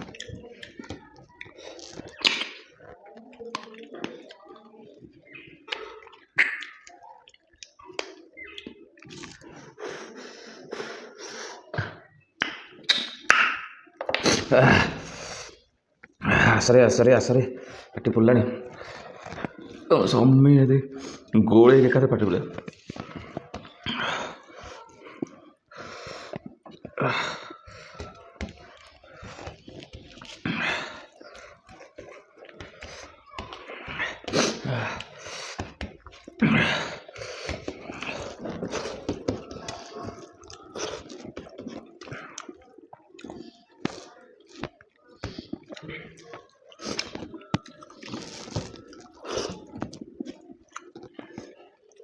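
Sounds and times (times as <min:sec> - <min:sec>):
wet chewing: 0:00.0 - 0:16.2, 0:18.6 - 0:20.2, 0:21.0 - 0:52.0.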